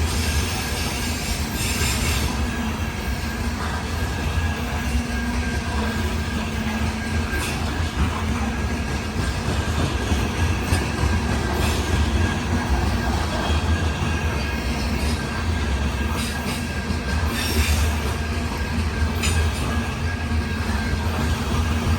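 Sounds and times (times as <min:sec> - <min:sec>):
train clanks: 0:00.0 - 0:21.9
train wheels rumbling on rail: 0:00.0 - 0:21.9.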